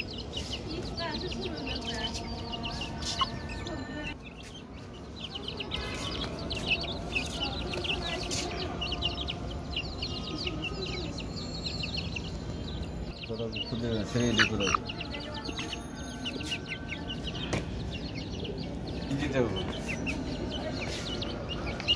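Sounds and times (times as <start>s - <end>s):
chicks peeping: 0.0s - 21.9s.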